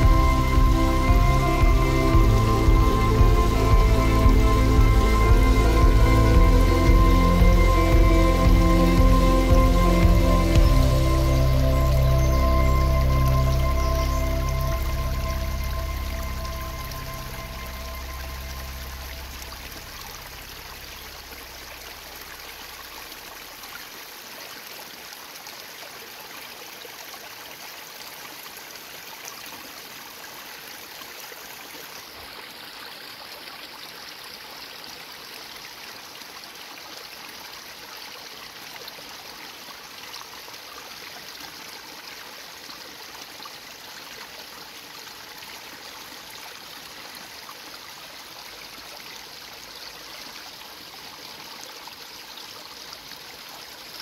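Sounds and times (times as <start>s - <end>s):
water rushing over stones: 0.0s - 54.0s.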